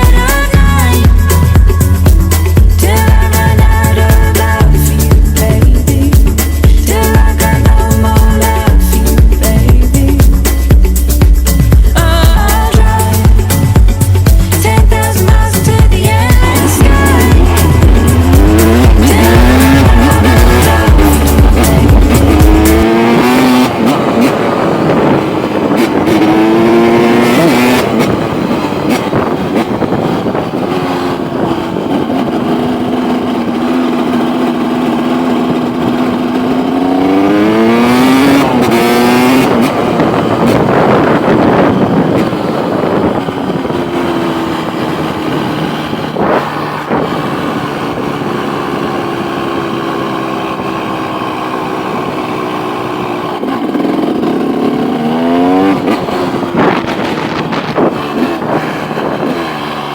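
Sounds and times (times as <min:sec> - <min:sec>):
two-stroke motorcycle engine: 0:00.0 - 0:59.9.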